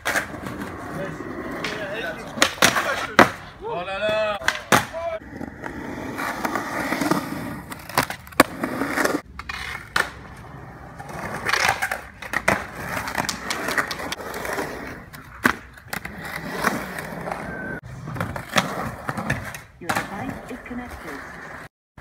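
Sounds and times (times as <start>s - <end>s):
skateboard clacking on concrete: 0.0s - 3.5s, 4.1s - 17.4s, 18.2s - 21.6s
skateboard wheels rolling on concrete: 0.0s - 21.7s.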